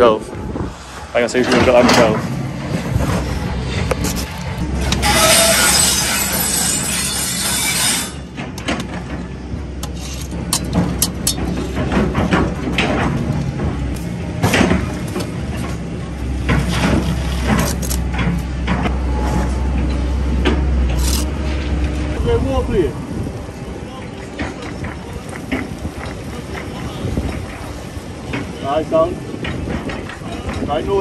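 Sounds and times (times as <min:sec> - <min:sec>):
steady low rumble: 0:00.0 - 0:07.5, 0:08.1 - 0:30.6.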